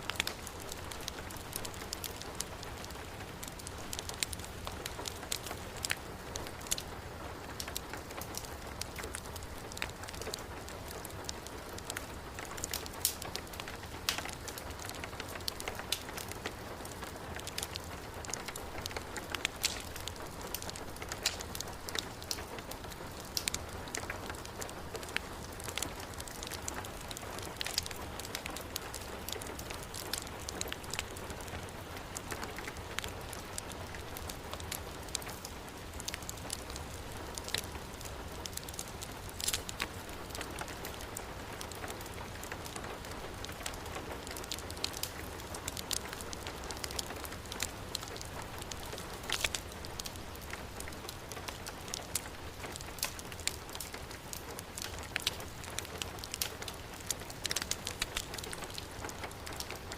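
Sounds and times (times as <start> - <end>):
wood fire crackling and popping: 0.0 - 59.9
heavy rain falling: 0.1 - 59.9.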